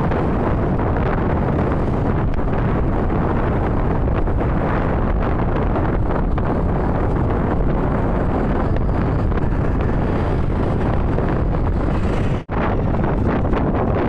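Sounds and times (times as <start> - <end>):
road and traffic noise: 0.0 - 14.0
wind roaring over microphone: 0.0 - 14.0.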